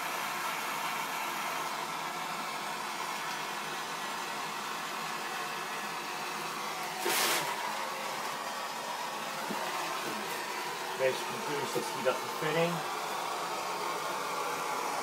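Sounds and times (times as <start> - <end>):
blow torch flame hissing: 0.0 - 15.0.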